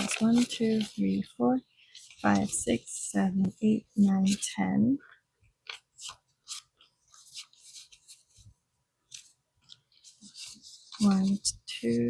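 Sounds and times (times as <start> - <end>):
banknotes rustling and crinkling: 0.0 - 4.6, 5.4 - 12.0.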